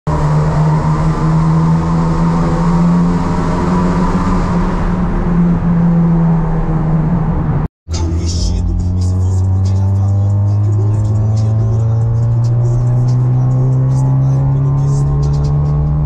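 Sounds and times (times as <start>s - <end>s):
car engine cruising from cabin: 0.1s - 16.0s
tyre and road noise: 0.1s - 16.0s.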